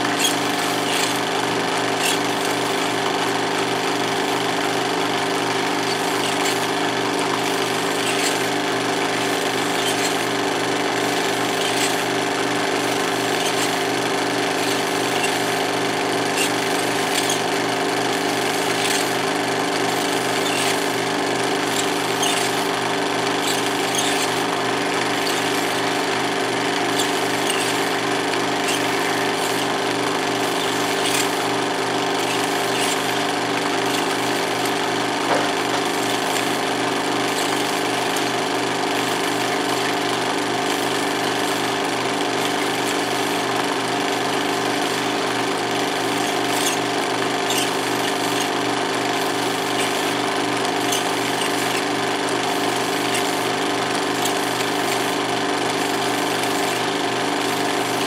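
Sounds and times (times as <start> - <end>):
film projector clattering: 0.0 - 58.0.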